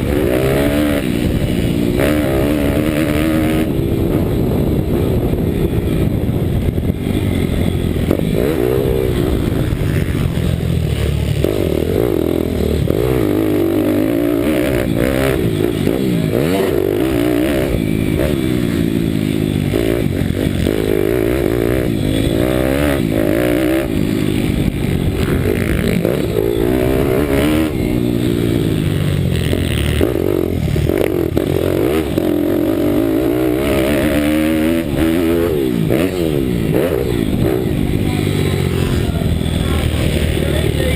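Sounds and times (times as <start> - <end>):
motorbike engine revving hard: 0.0 - 40.9.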